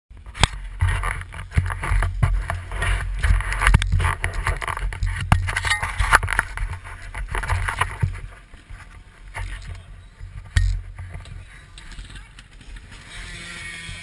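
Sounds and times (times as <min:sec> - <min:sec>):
camera handling rustling and knocks: 0:00.3 - 0:13.0.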